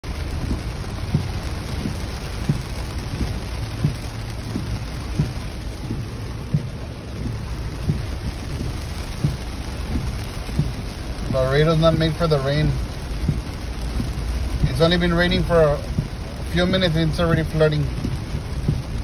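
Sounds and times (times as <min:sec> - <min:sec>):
heavy rain on windshield and roof: 0:00.0 - 0:19.0
short low thumps: 0:00.0 - 0:19.0.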